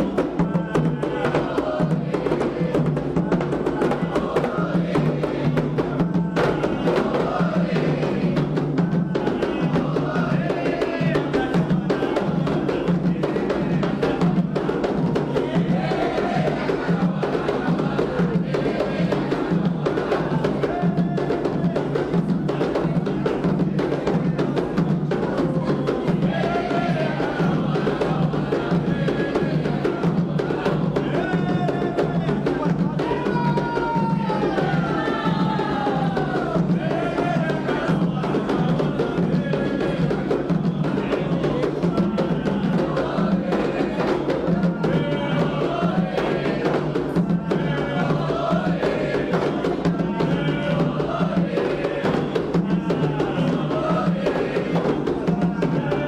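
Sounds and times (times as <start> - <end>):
hand drums beating: 0.0 - 56.0
voices singing: 0.0 - 56.0.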